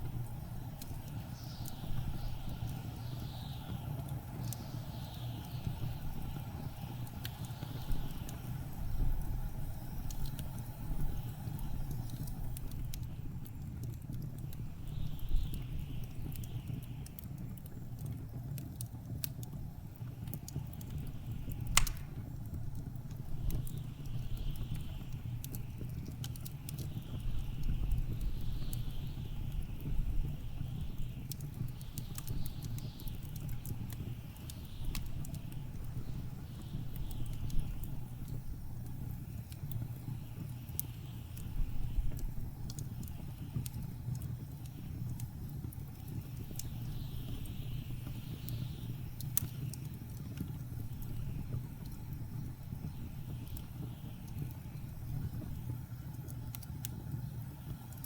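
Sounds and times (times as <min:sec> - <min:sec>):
low rumble of blizzard wind: 0:00.0 - 0:58.0
wood fire crackling and popping: 0:00.0 - 0:58.0.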